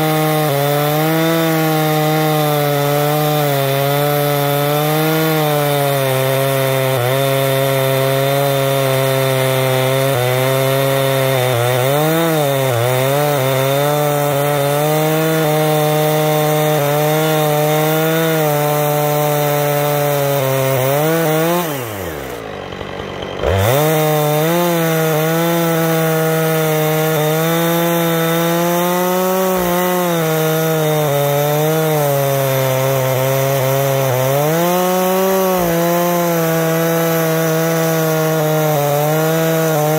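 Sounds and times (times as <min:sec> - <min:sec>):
chainsaw ripping log: 0:00.0 - 0:39.9.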